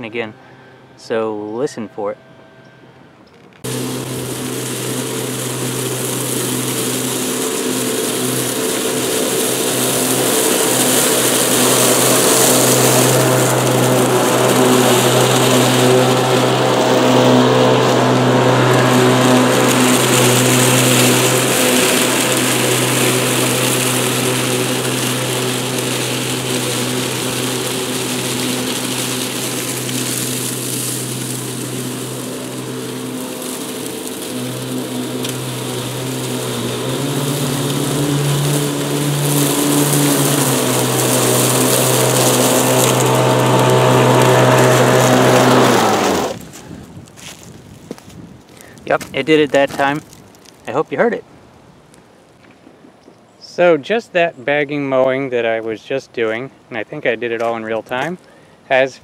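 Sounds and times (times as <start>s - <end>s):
electric lawn mower humming: 0.0s - 1.3s, 2.0s - 48.0s
blades cutting grass: 0.0s - 51.2s, 53.5s - 59.0s.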